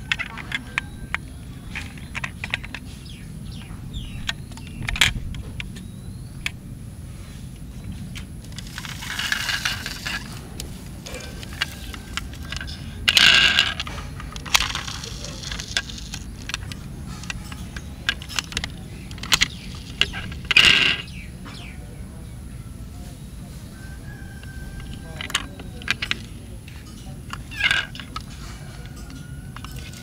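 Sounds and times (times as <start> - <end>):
toy trucks clicking and rattling: 0.0 - 6.6, 7.6 - 21.7, 23.8 - 30.0.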